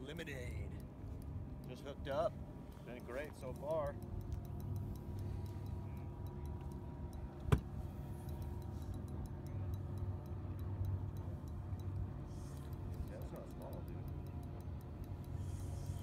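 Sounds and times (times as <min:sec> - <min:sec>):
low steady hum: 0:00.0 - 0:16.0
spinning reel ticking: 0:00.0 - 0:16.0.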